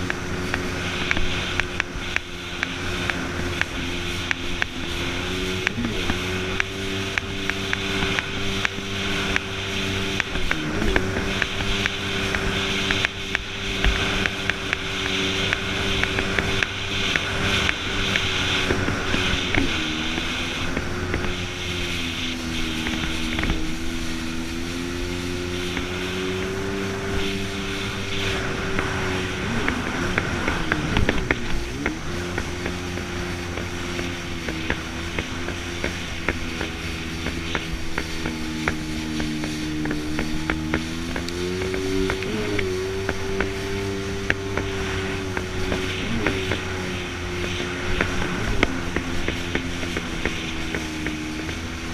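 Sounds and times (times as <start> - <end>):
constant hiss: 0.0 - 51.9
jet ski engine running: 0.0 - 51.9.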